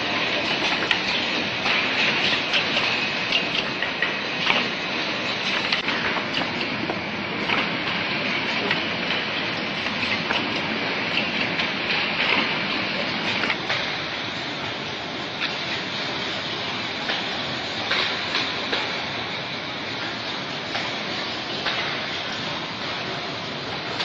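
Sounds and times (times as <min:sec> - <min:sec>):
irregular machine clicks and clacks: 0:00.0 - 0:14.3, 0:15.3 - 0:15.9, 0:17.0 - 0:19.0, 0:20.0 - 0:24.0.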